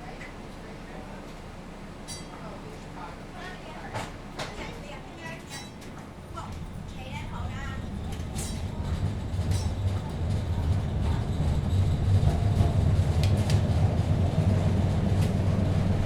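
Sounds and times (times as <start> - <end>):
streetcar rumbling on rails: 0.0 - 16.0.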